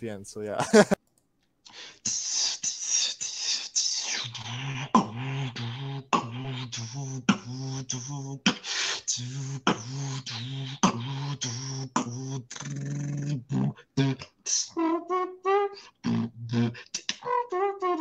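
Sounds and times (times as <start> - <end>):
beatboxing: 1.7 - 18.0.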